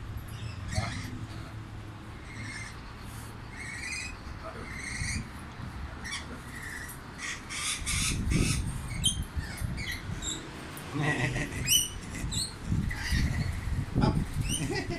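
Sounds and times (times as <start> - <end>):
pet birds chirping: 0.2 - 10.5, 11.6 - 14.9.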